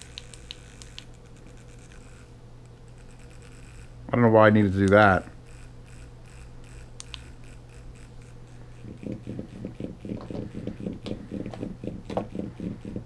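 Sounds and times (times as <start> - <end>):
massager motor humming and pulsing: 0.0 - 13.0.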